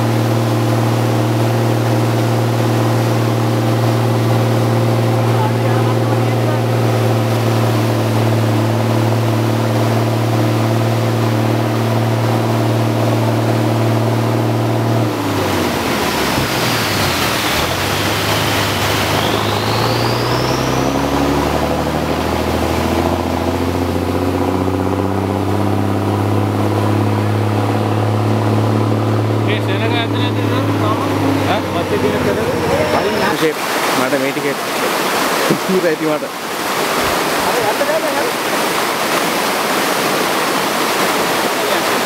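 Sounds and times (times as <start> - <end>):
vehicle engine running: 0.0 - 34.5
rush of water noise: 0.0 - 42.0.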